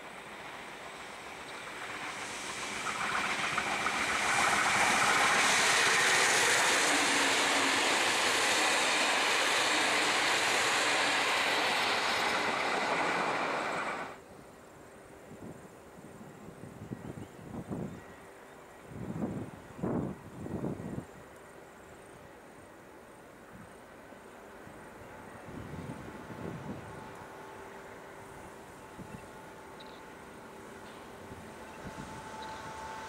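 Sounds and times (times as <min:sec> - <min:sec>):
train rolling over rails: 0:00.0 - 0:14.3, 0:18.3 - 0:33.0.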